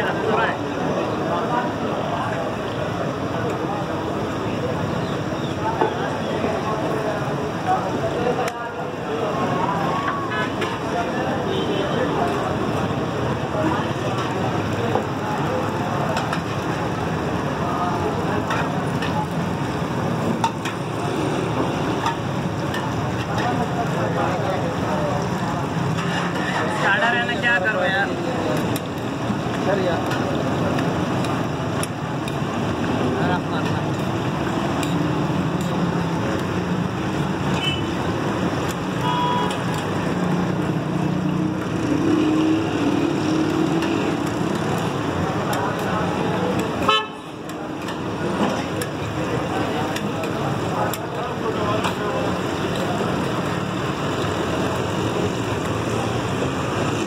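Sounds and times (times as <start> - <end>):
vehicle engines running: 0.0 - 57.0.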